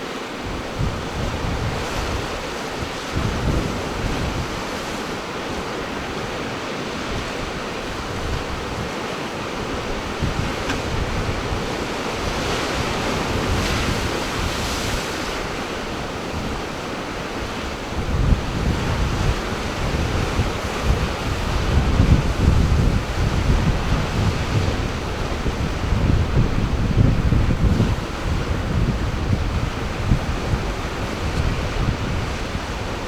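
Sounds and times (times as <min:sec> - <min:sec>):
ocean surf washing: 0:00.0 - 0:33.0
wind buffeting microphone: 0:00.0 - 0:33.0.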